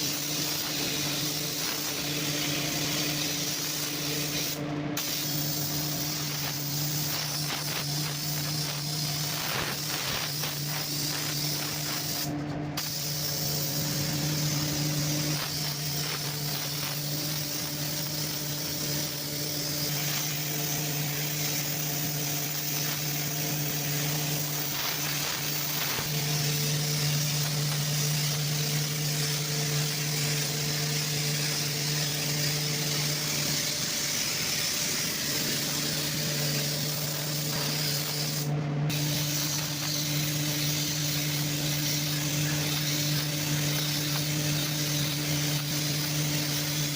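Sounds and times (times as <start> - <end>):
motor humming: 0.0 - 46.9
paint spray gun hissing: 0.0 - 46.9.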